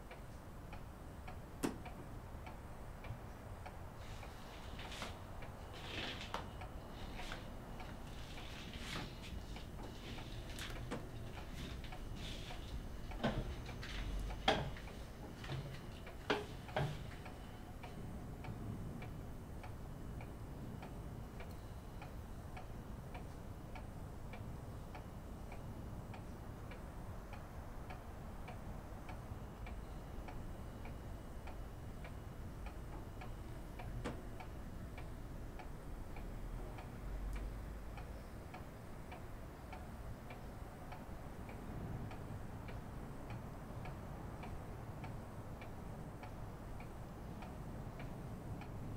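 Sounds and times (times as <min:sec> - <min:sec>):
clock ticking: 0:06.3 - 0:48.9.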